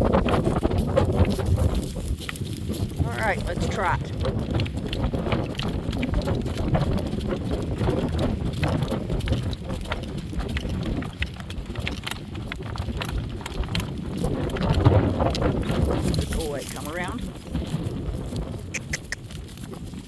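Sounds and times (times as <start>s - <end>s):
cart rumble: 0.0s - 20.0s
horse hooves clip-clopping: 0.0s - 20.0s
wind: 0.0s - 20.0s.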